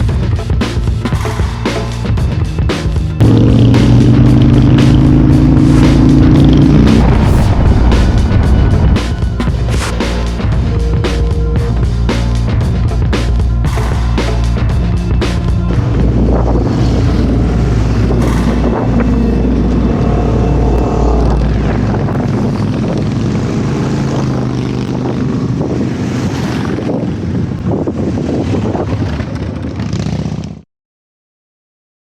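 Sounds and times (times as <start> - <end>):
vehicle engine running and revving: 0.0 - 30.6.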